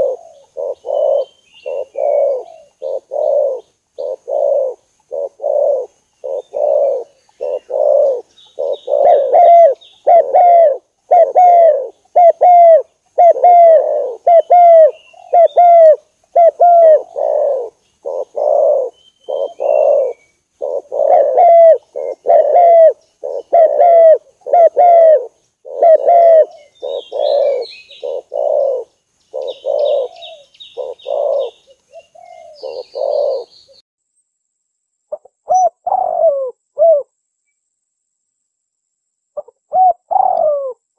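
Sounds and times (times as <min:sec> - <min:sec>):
dove cooing: 0:00.0 - 0:33.8, 0:35.2 - 0:37.1, 0:39.4 - 0:40.9
small birds chirping: 0:00.0 - 0:33.8.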